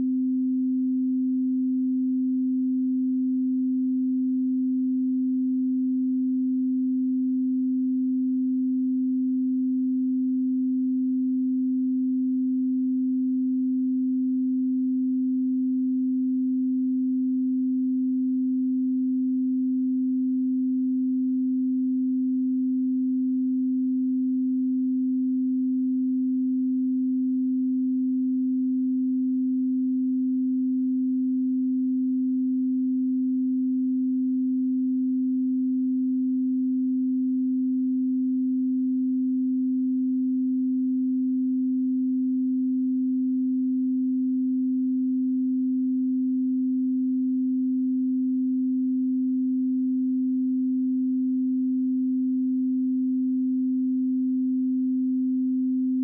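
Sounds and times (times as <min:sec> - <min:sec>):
pure sine tone: 0:00.0 - 0:56.0.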